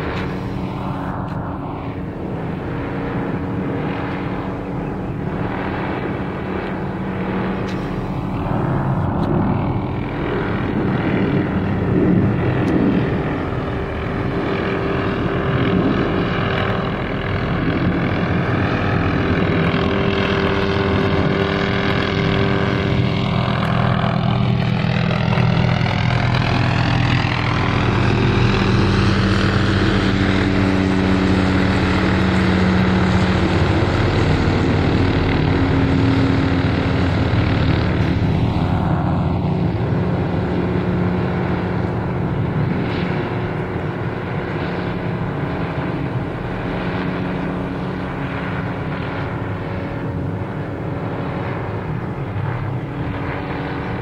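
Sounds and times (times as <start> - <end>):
helicopter flying overhead: 0.0 - 54.0.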